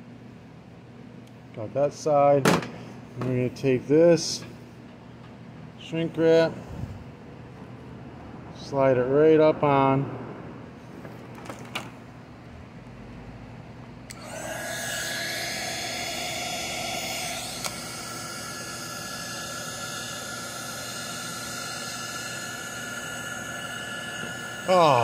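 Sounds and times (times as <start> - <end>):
heat gun fan whirring: 0.0 - 9.9, 10.7 - 25.0.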